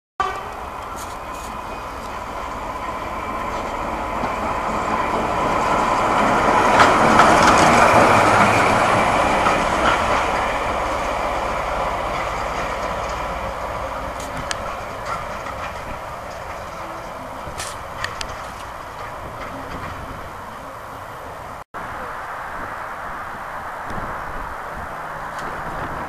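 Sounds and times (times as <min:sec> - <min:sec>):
diesel locomotive passing: 0:00.2 - 0:26.0.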